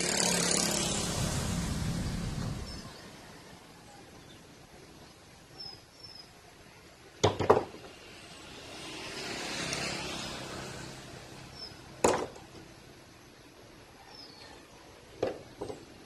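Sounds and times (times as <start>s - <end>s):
rush of background noise: 0.0s - 16.0s.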